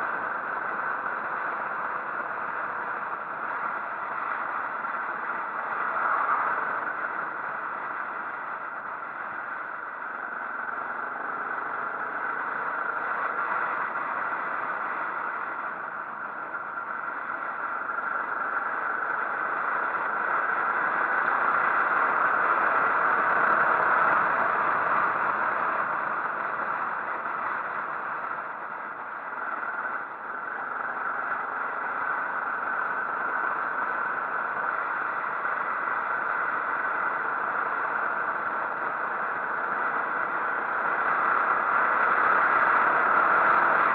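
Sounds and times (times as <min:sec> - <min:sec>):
motorcycle wind and engine noise: 0:00.0 - 0:43.9.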